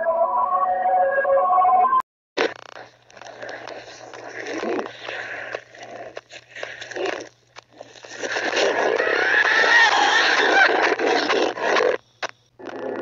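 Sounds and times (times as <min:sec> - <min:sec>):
harsh distorted noise: 0:02.4 - 0:13.0.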